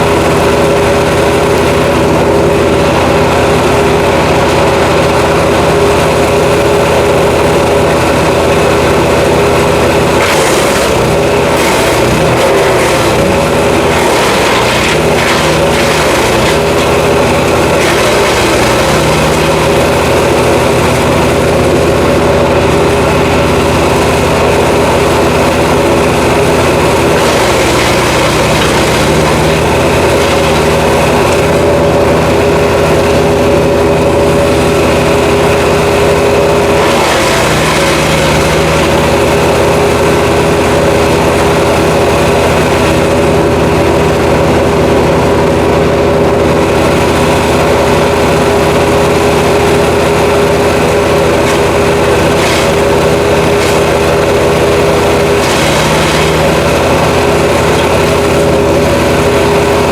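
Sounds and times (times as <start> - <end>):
wood chipper engine running: 0.0 - 59.9.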